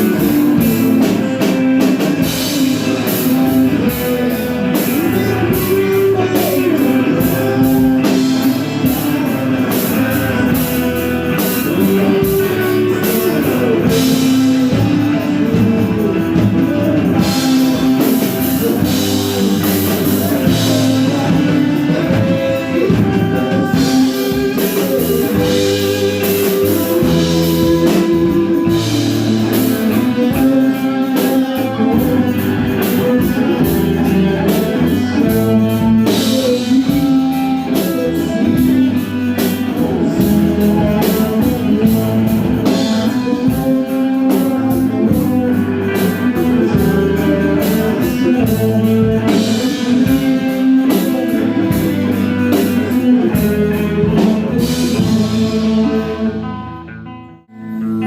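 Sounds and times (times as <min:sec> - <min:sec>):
drum kit beat: 0:00.0 - 0:56.8
band playing guitar music: 0:00.0 - 0:58.0.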